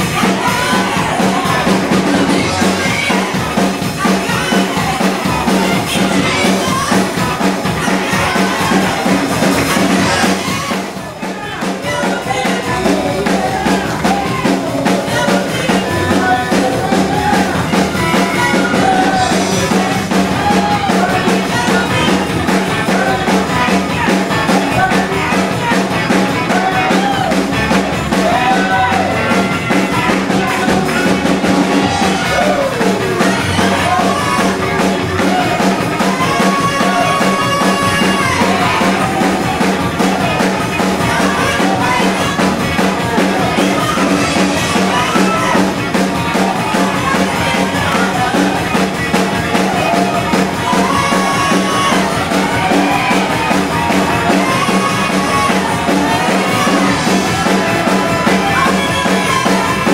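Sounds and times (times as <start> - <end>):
fast drum-kit beat: 0.0 - 59.9
singing over music: 0.0 - 59.9.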